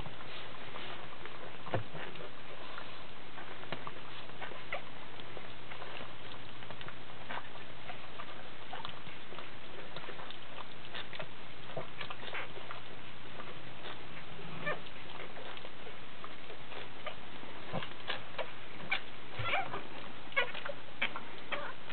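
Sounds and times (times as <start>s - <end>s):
dog licking puppies: 0.0s - 21.9s
low hum and hiss: 0.0s - 21.9s.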